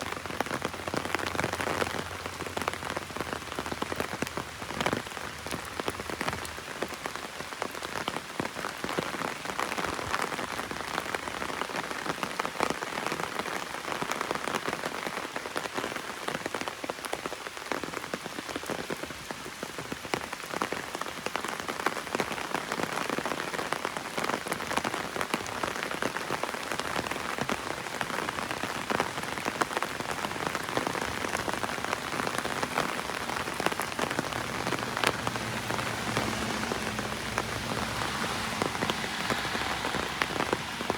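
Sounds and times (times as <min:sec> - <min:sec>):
heavy rain on an umbrella: 0:00.0 - 0:40.9.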